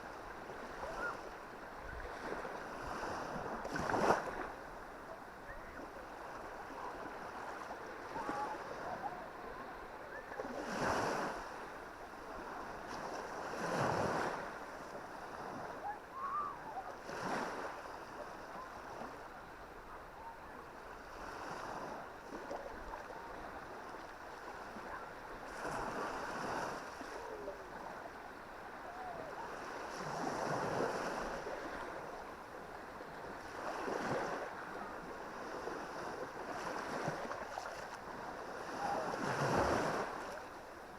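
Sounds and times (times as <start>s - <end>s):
surf hiss: 0.0s - 40.9s
waves breaking on beach: 0.0s - 40.9s.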